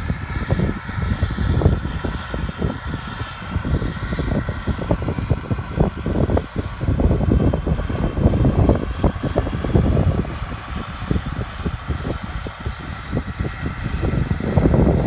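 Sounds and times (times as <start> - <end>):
tractor engine droning: 0.0 - 15.0
wind buffeting microphone: 0.0 - 15.0.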